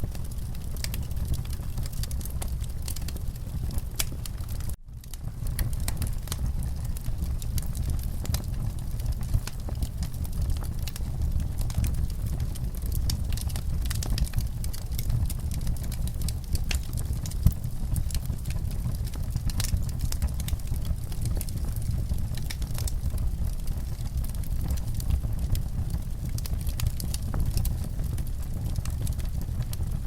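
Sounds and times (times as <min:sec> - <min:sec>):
fireplace fire crackling: 0:00.0 - 0:30.0
low rumble of fire: 0:00.0 - 0:30.0.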